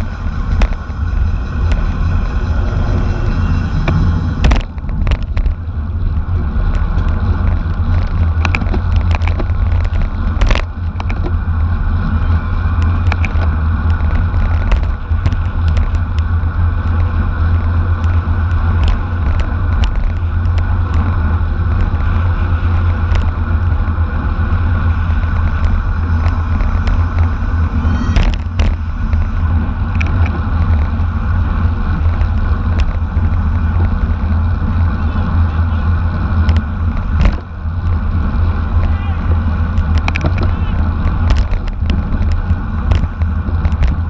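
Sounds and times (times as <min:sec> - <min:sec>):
sharp clicks and rattles: 0:00.0 - 0:44.0
wind buffeting microphone: 0:00.0 - 0:44.0.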